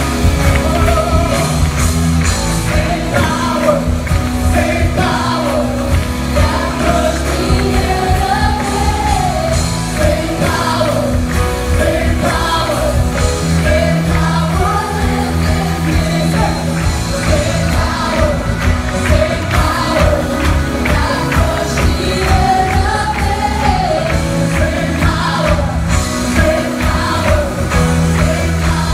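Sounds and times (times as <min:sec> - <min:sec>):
singers singing together: 0:00.0 - 0:28.9
worship band playing: 0:00.0 - 0:28.9.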